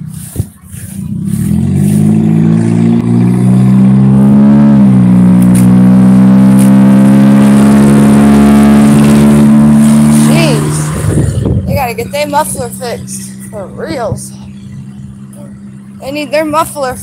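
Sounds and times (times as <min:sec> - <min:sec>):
loud vehicle engine with bad muffler: 0:00.0 - 0:17.0.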